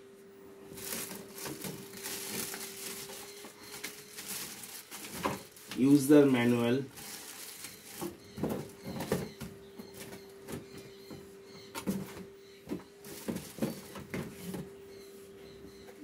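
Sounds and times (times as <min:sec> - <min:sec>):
plastic and cardboard rustling: 0:00.6 - 0:11.2, 0:11.8 - 0:14.8.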